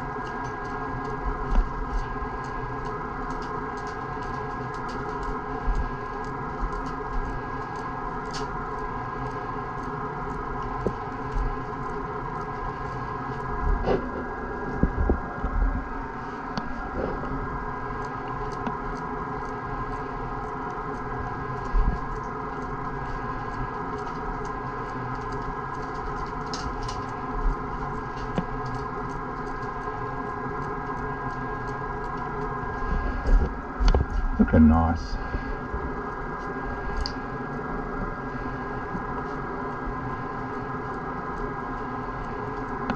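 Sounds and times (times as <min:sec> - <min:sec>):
motor hum with fixed tones: 0:00.0 - 0:42.9.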